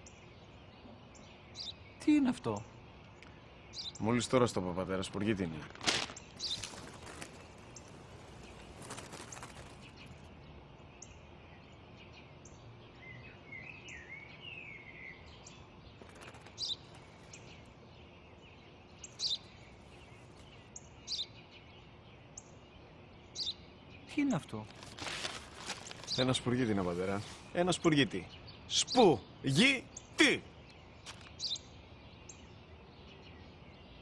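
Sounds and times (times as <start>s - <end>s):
birds chirping: 0.0s - 34.0s
outdoor background hiss: 0.0s - 34.0s.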